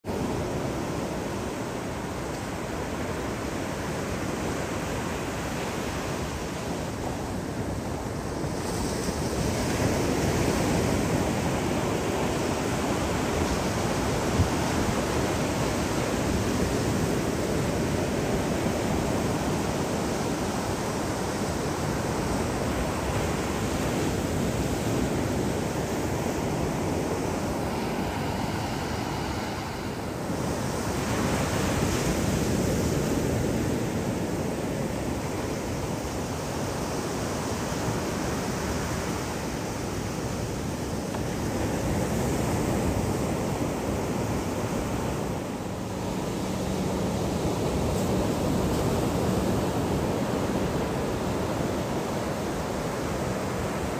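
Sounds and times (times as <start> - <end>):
wind on microphone: 0.0 - 53.9
small waves breaking: 0.1 - 53.9.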